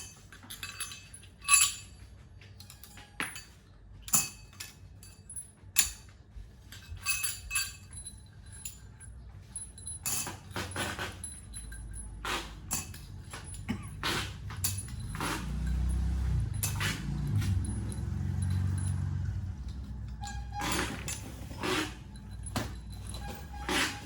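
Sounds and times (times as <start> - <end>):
metal parts clinking: 0.0 - 24.0.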